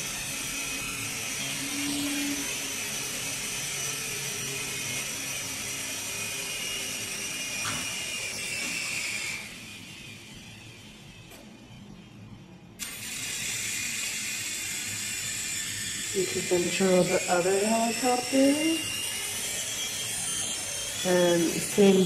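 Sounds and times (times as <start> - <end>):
toy helicopter motors whining: 0.0 - 11.8, 12.8 - 22.0.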